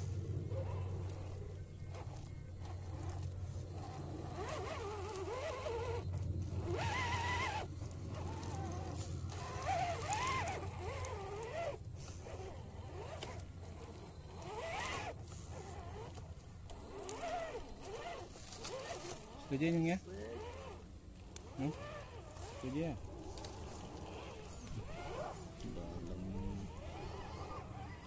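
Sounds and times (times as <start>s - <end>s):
rc car motor whining: 0.0s - 28.0s
steady low hum: 0.0s - 28.0s.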